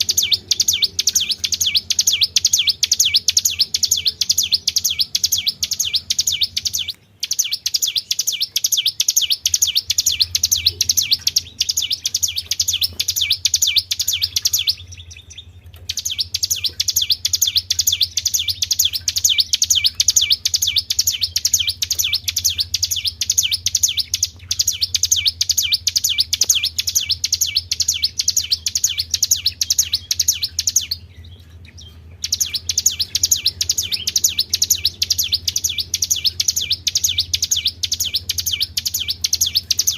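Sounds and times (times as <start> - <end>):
bird chirping rapidly: 0.0 - 39.9
low steady hum: 0.0 - 39.9.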